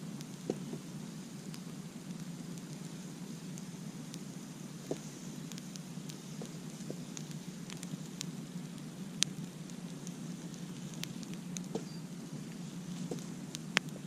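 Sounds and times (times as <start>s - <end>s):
campfire crackling: 0.0s - 14.0s
fire pops and snaps: 0.0s - 14.0s.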